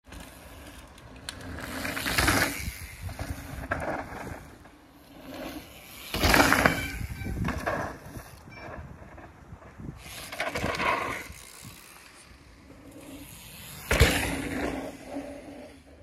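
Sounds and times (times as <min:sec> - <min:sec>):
bike tyres rolling over dirt: 0:00.0 - 0:16.0.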